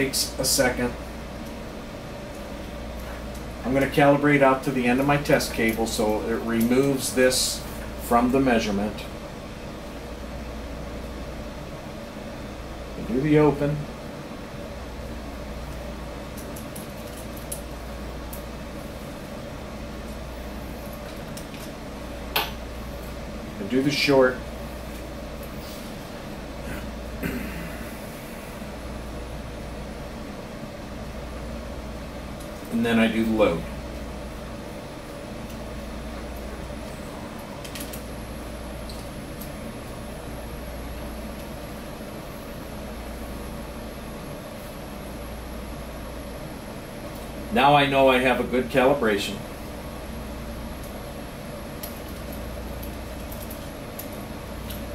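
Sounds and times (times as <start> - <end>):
low room hum: 0.0 - 54.9.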